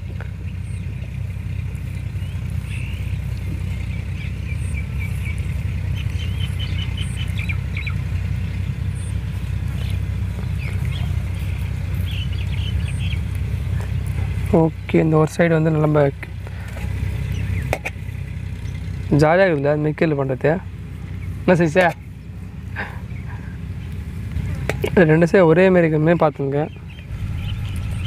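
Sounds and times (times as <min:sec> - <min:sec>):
steady low rumble: 0:00.0 - 0:25.4, 0:26.7 - 0:28.0
small birds chirping: 0:00.0 - 0:28.0.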